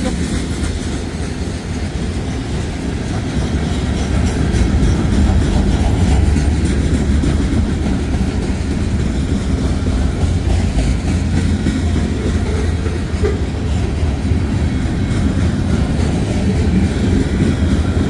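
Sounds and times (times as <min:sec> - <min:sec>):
freight cars rolling on rails: 0:00.0 - 0:18.0.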